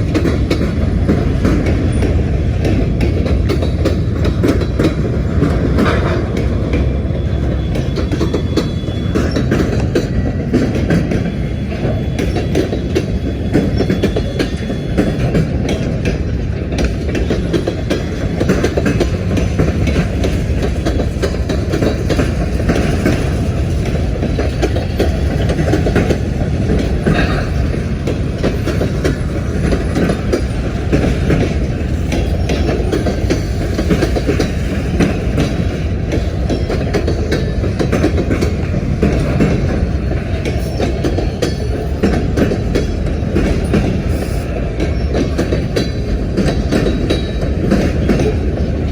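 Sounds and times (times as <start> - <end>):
freight train cars rumbling: 0.0 - 48.9
wheels clicking on rails: 0.0 - 48.9.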